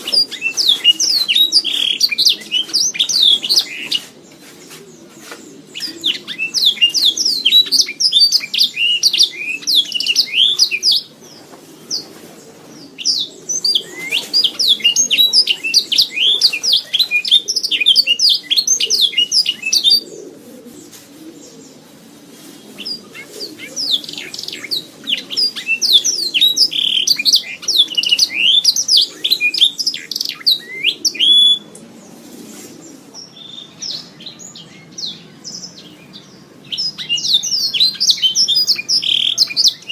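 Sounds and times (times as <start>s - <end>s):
canary singing trills and chirps: 0.0s - 4.1s, 5.7s - 12.0s, 12.8s - 20.2s, 22.8s - 31.7s, 33.3s - 39.9s.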